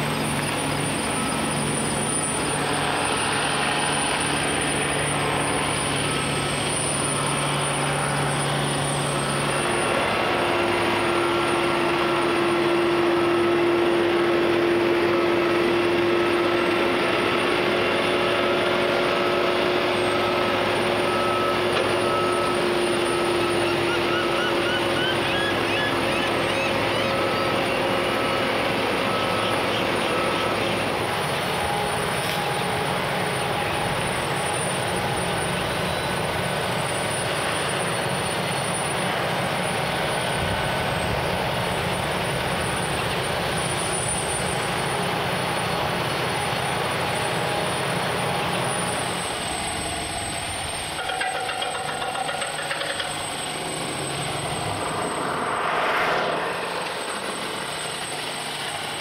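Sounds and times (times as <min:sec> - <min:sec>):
heavy equipment running: 0:00.0 - 0:59.0.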